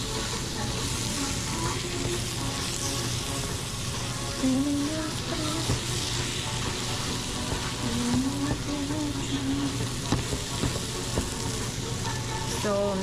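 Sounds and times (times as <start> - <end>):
vegetables sizzling in frying pan: 0.0 - 13.0.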